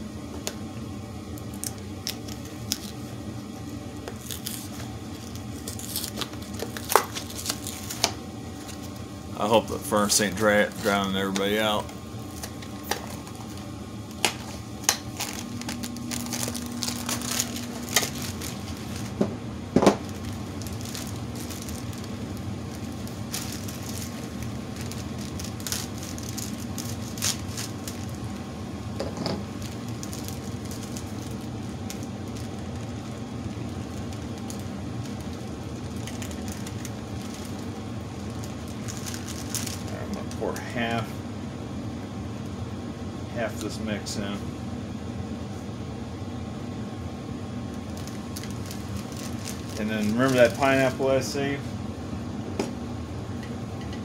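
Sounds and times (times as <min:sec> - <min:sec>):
furnace running: 0:00.0 - 0:54.0.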